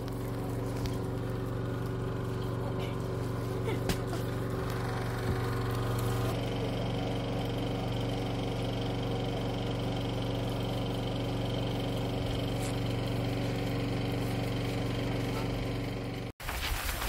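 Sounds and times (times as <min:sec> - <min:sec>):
engine humming steadily: 0:00.0 - 0:16.4.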